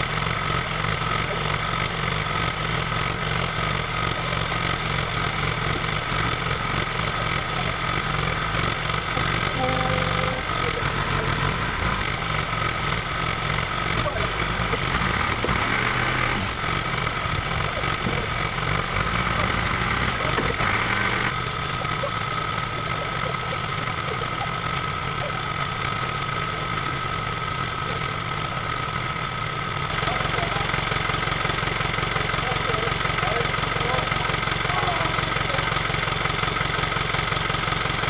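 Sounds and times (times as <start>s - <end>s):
constant whine: 0.0s - 38.0s
engine idling: 0.0s - 38.0s.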